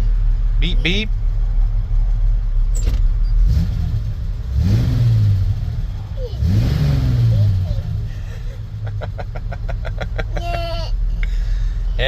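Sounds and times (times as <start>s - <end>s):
pickup engine idling and revving: 0.0s - 12.0s.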